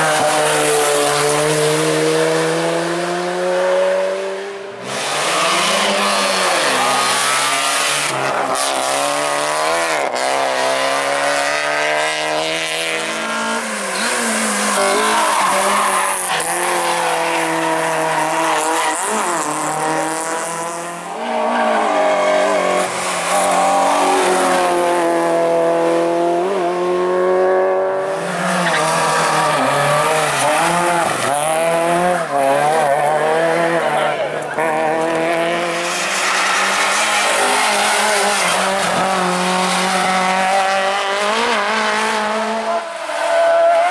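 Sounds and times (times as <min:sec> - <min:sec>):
racing car engines revving: 0:00.0 - 0:43.9.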